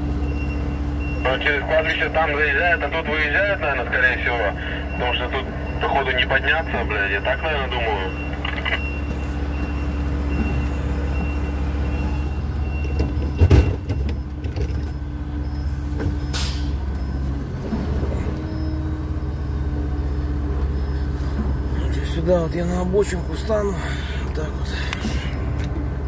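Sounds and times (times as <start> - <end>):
truck diesel engine at low revs: 0.0 - 26.0.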